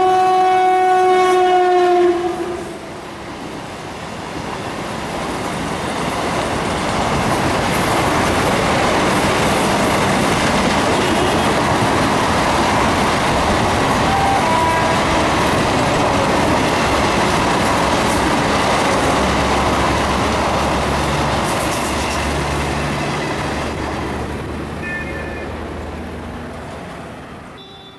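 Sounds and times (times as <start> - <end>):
train coaches rolling past: 0.0 - 27.9.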